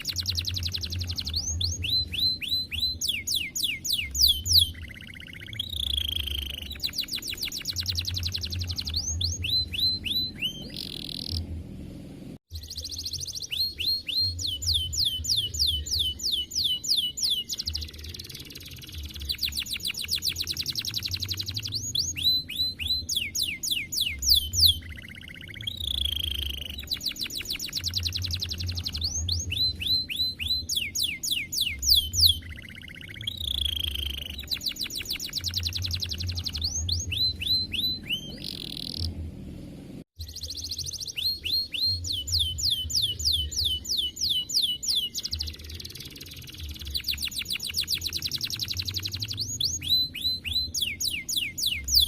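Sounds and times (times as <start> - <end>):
canary singing trills: 0.0 - 11.6, 12.5 - 39.2, 40.2 - 52.0.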